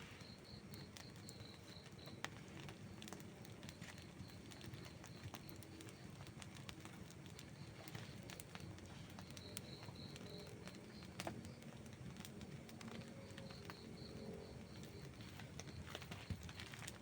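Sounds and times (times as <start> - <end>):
flame fluttering: 0.0 - 17.0
wood fire crackling: 0.0 - 17.0.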